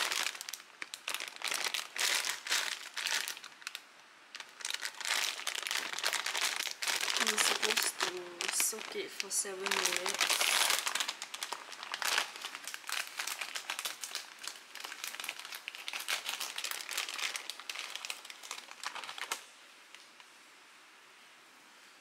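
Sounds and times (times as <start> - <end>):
plastic packet crinkling: 0.0 - 20.0.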